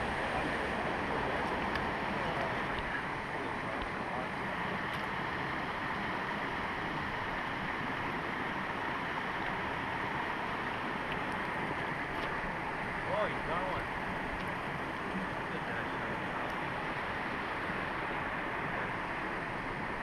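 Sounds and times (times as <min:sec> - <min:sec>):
creek babbling over rocks: 0:00.0 - 0:20.0.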